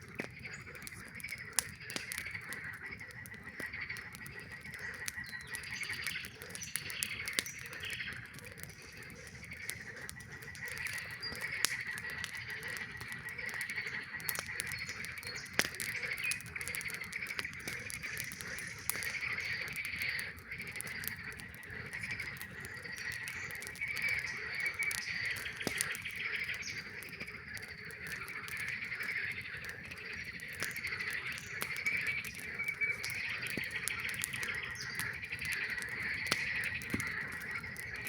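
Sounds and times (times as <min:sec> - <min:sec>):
campfire popping and crackling: 0:00.0 - 0:38.0
frogs calling in pulsing trills: 0:00.0 - 0:38.0.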